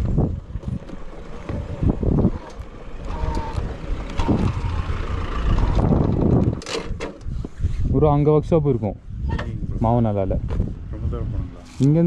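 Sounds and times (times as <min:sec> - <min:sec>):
motor vehicle running: 0:00.0 - 0:11.8
wind buffeting microphone: 0:00.0 - 0:12.0.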